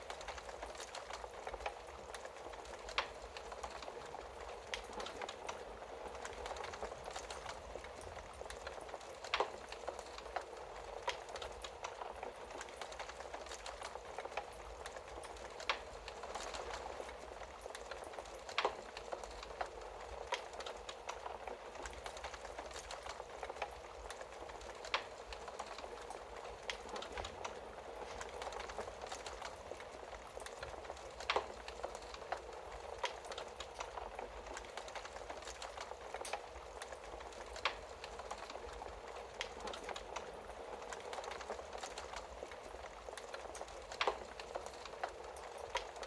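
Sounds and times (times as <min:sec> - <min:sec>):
flames hissing and fluttering: 0:00.0 - 0:46.0
logs crackling and popping: 0:00.0 - 0:46.0.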